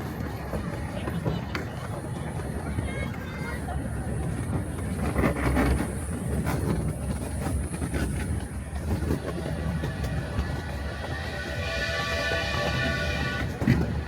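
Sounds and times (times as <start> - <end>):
wheels clicking over rail joints: 0.0 - 11.6
miniature train rumbling: 0.0 - 14.0.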